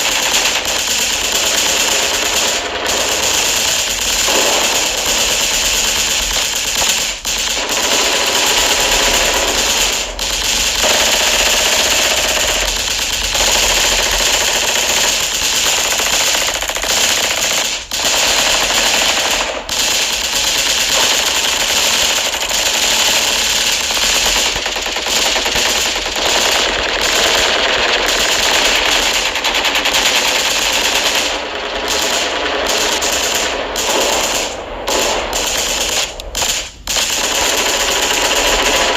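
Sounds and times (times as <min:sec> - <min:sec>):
machine-gun fire: 0:00.0 - 0:38.9.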